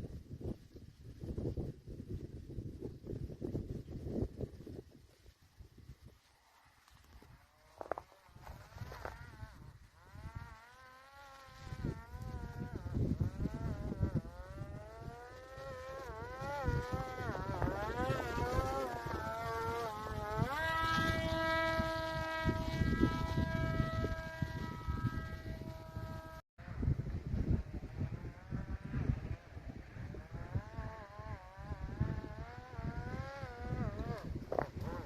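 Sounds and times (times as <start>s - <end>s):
drone motor and propeller whining: 0.0s - 35.0s
low wind rumble: 0.0s - 35.0s.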